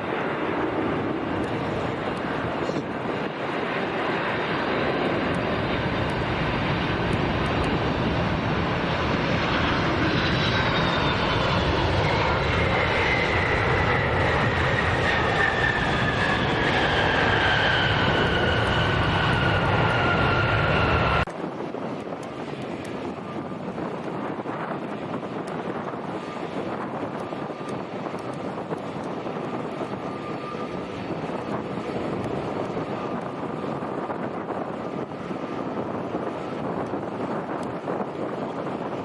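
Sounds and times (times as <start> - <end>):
jet engine whine: 0.0 - 39.0
jet engines roaring: 0.0 - 39.0.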